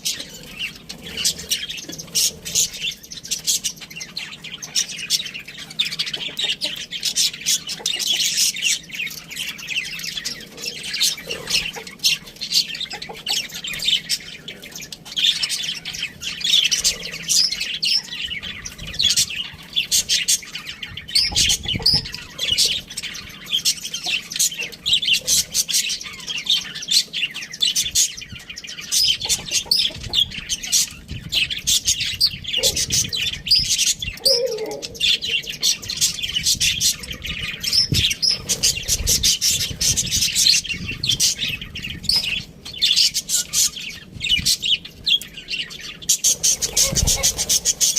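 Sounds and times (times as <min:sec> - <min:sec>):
budgerigars chattering: 0:00.0 - 0:47.9.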